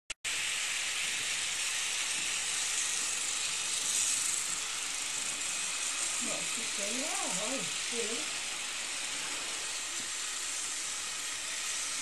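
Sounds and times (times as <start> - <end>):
steady hiss: 0.3 - 12.0.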